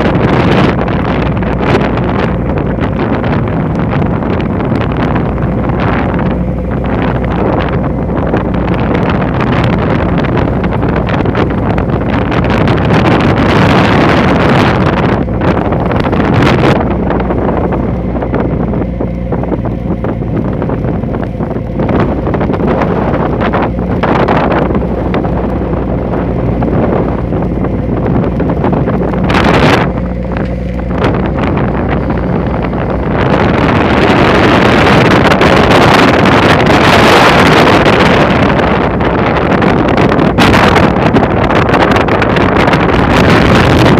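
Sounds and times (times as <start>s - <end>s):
boat motor running: 0.0s - 43.9s
rushing water: 0.0s - 43.9s
wind buffeting microphone: 0.0s - 43.9s.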